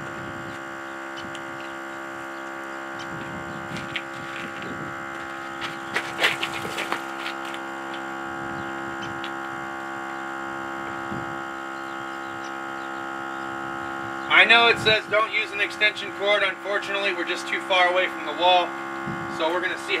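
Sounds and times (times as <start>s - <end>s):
tire inflator compressor humming: 0.0s - 20.0s.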